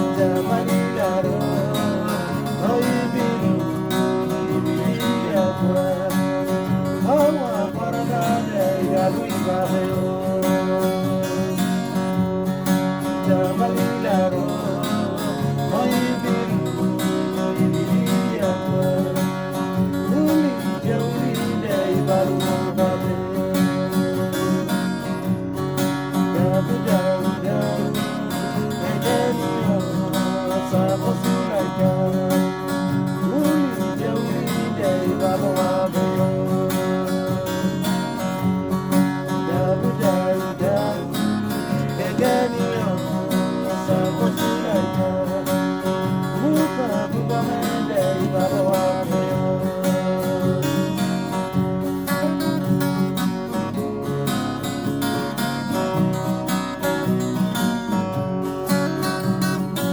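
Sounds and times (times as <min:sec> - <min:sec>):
person singing: 0:00.0 - 0:52.7
acoustic guitars strumming: 0:00.0 - 0:59.9.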